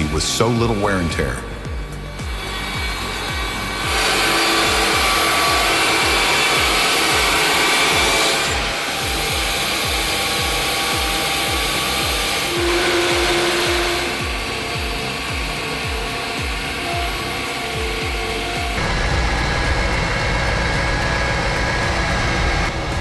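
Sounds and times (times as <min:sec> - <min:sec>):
bandsaw cutting wood: 0:00.0 - 0:22.9
background music with bass beat: 0:00.0 - 0:23.0.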